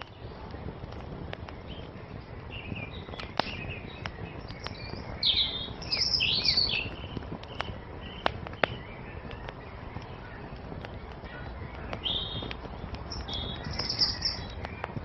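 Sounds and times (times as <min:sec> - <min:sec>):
fire popping: 0:00.0 - 0:15.0
low steady rush: 0:00.0 - 0:15.0
songbirds singing: 0:00.0 - 0:15.0
wood fire crackling: 0:00.0 - 0:15.0.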